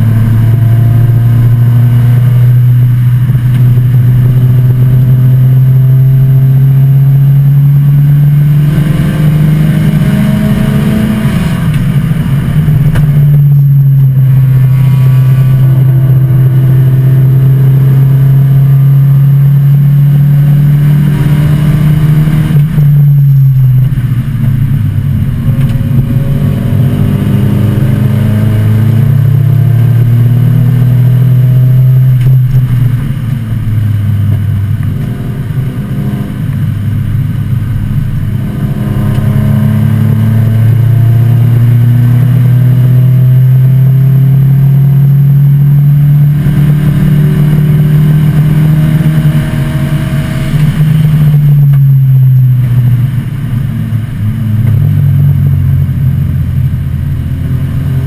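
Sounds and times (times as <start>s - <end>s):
car engine droning at high revs: 0.0s - 58.0s.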